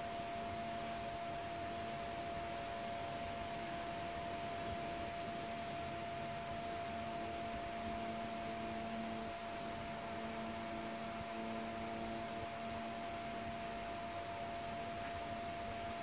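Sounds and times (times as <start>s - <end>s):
constant hiss: 0.0s - 16.0s.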